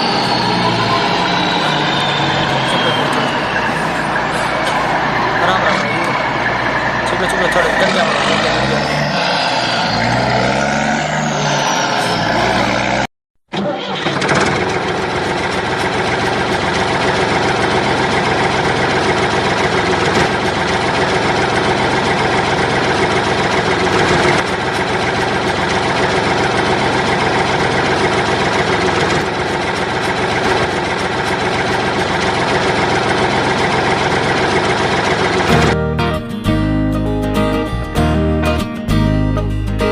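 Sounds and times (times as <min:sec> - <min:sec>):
engine running steadily: 0:00.0 - 0:13.1, 0:14.0 - 0:39.9.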